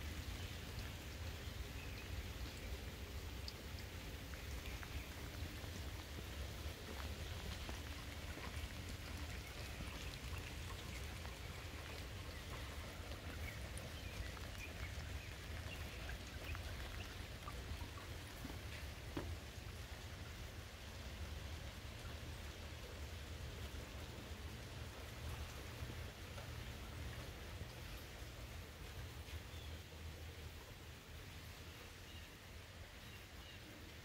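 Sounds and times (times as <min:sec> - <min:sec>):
raindrops ticking: 0:00.0 - 0:30.6
light rain hissing: 0:00.0 - 0:34.0.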